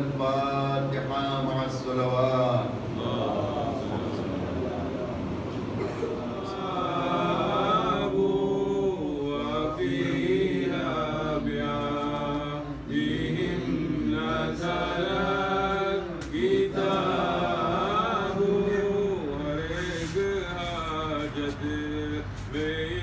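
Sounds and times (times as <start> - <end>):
man chanting: 0.0 - 5.3, 6.3 - 23.0.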